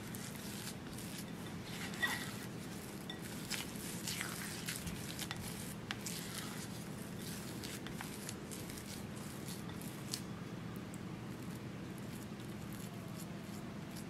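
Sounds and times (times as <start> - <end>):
spatula squishing cookie dough: 0.0 - 10.4, 11.3 - 14.0.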